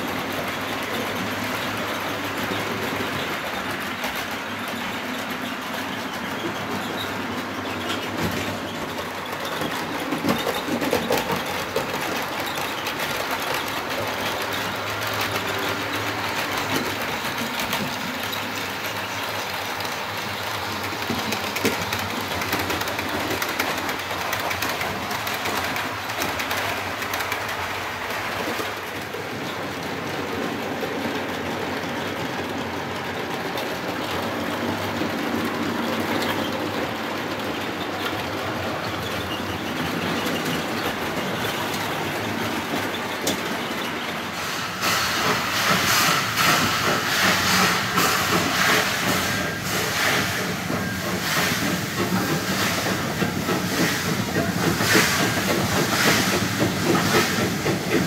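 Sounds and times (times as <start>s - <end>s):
wheels clicking over rail joints: 0.0s - 58.0s.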